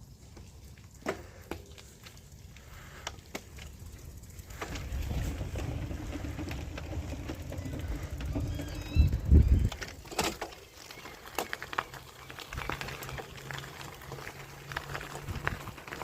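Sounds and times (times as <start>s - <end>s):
bicycle clicks and rattles: 0.0s - 16.0s
tyres rolling rumble: 2.7s - 16.0s.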